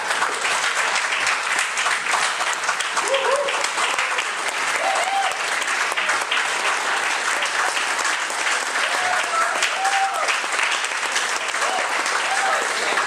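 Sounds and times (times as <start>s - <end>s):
crowd applause: 0.0s - 13.0s.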